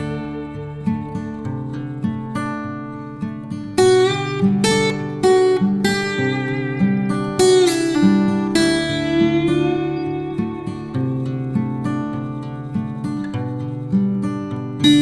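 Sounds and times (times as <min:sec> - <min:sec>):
acoustic guitar picked notes: 0:00.0 - 0:15.0
guitar chords ringing: 0:00.0 - 0:15.0.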